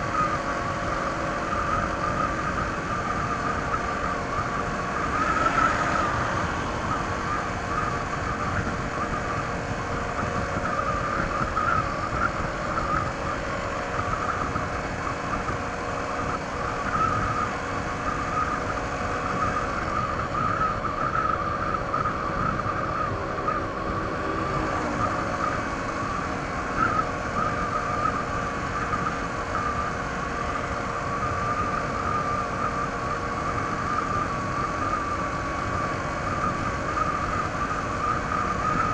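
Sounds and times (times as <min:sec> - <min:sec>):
scooter engine running: 0:00.0 - 0:33.2
wind and road noise: 0:00.0 - 0:38.9.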